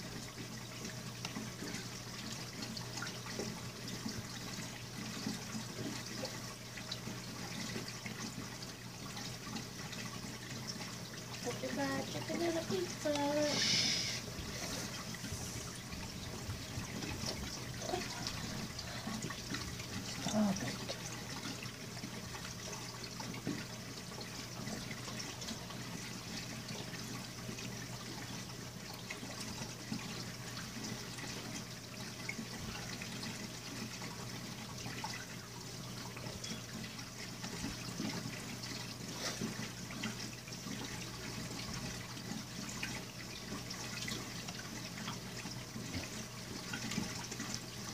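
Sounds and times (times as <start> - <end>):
low steady hum: 0.0 - 47.9
water trickling and splashing: 0.0 - 47.9.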